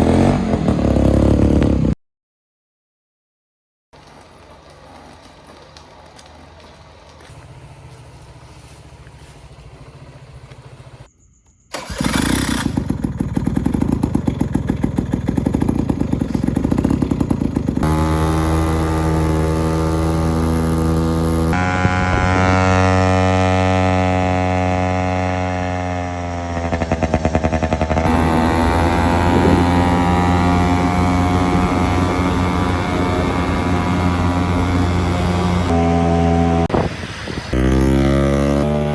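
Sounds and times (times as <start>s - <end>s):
two-stroke engine running: 4.0s - 11.1s, 11.8s - 36.7s, 37.5s - 38.9s.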